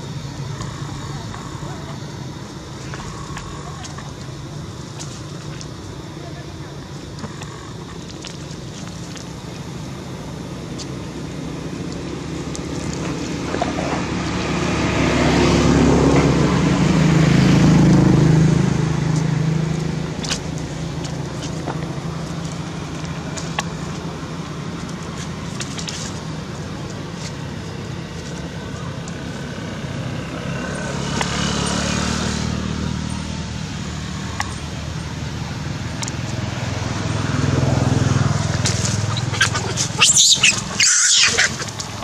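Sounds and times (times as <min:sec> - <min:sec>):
outdoor background noise: 0:00.0 - 0:42.0
vehicle engine hum passing: 0:00.0 - 0:42.0.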